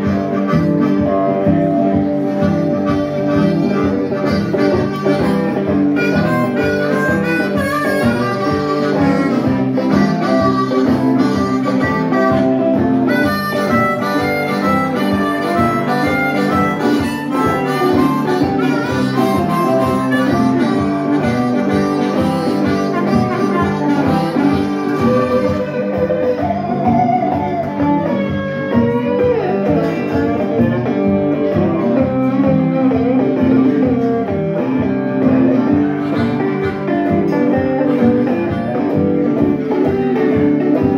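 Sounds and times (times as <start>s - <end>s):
blues band playing: 0.0s - 40.9s
harmonica through microphone: 0.0s - 40.9s.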